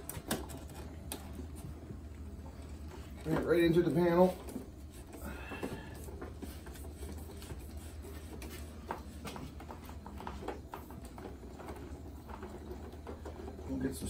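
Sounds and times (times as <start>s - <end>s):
cable taps and rustles: 0.0s - 14.0s
steady low hum: 0.0s - 14.0s.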